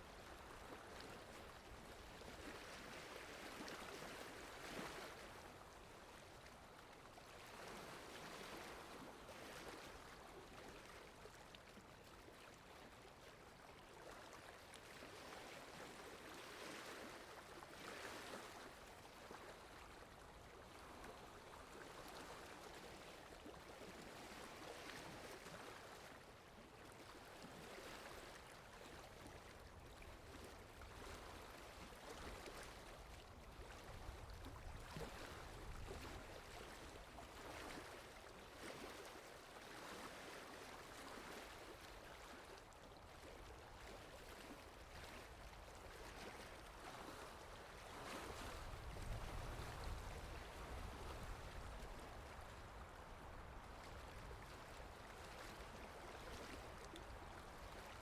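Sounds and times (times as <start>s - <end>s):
faint water lapping: 0.0s - 58.0s.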